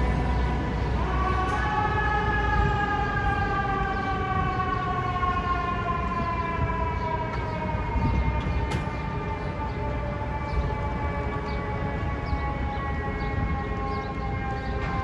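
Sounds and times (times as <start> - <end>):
fire engine siren wailing: 0.0 - 15.0
low rumble of street traffic: 0.0 - 15.0.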